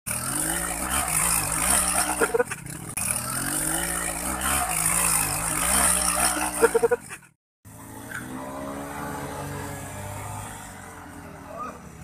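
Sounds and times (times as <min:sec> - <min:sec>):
small motorcycle engine revving: 0:00.1 - 0:12.0.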